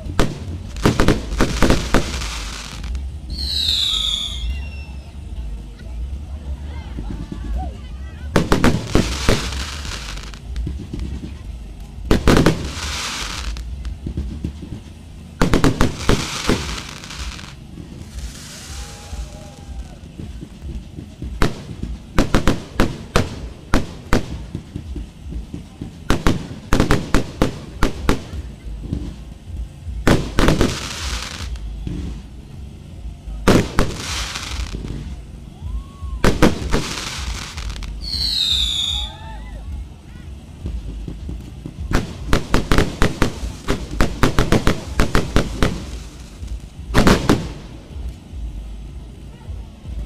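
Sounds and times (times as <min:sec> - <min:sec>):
firework bangs: 0:00.0 - 0:50.0
firework crackling: 0:00.0 - 0:50.0.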